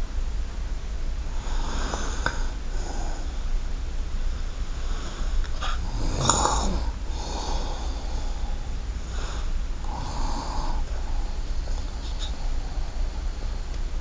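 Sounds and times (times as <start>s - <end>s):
low hum: 0.0s - 14.0s
person breathing softly: 1.3s - 14.0s.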